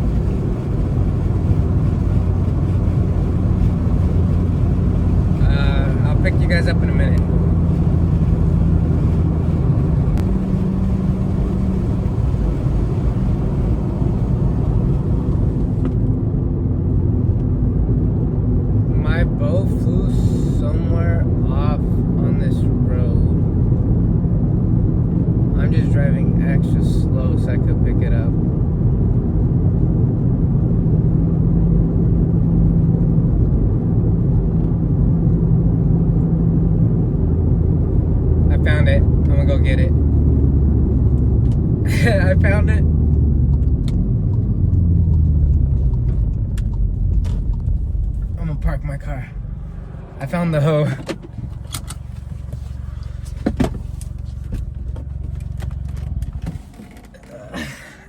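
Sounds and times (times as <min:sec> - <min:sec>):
car engine rumble: 0:00.0 - 0:58.0
road noise: 0:00.0 - 0:58.0.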